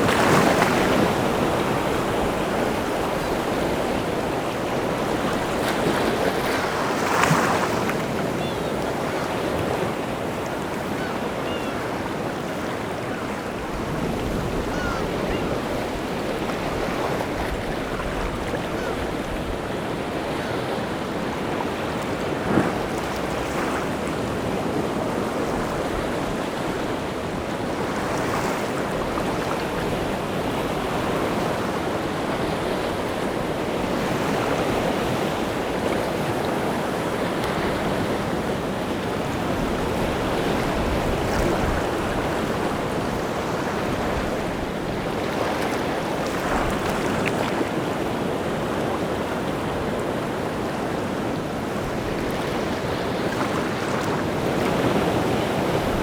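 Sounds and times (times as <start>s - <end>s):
waves breaking on shore: 0.0s - 56.0s
wind: 0.0s - 56.0s.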